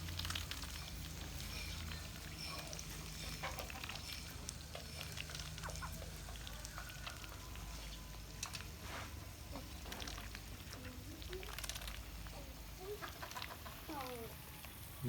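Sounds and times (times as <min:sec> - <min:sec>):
low steady hum: 0:00.0 - 0:15.0
poultry tapping and pattering: 0:00.0 - 0:15.0.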